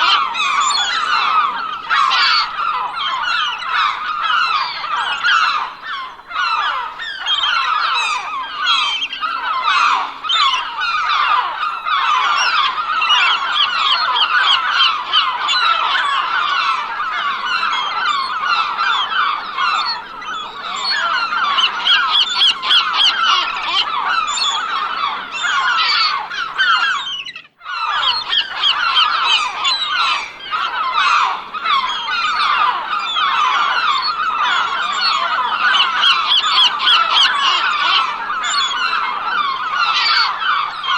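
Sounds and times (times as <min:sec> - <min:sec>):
gulls calling: 0:00.0 - 0:40.9.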